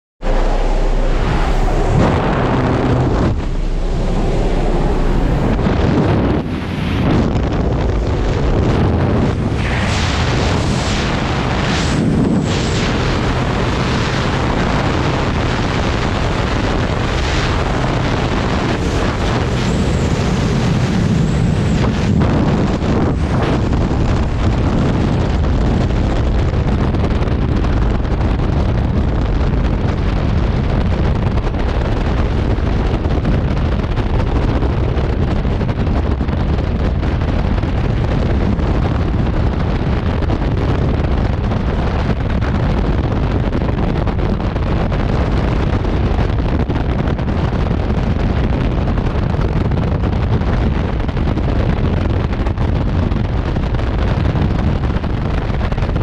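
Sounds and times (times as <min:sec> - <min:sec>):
wind roar on microphone: 0:00.2 - 0:56.0.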